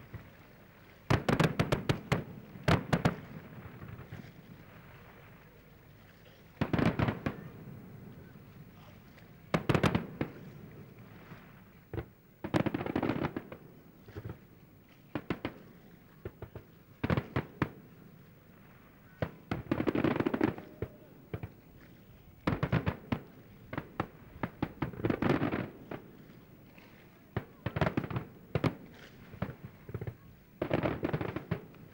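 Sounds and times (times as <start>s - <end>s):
firework crackling: 0.0s - 5.7s, 6.5s - 14.4s, 15.1s - 31.9s.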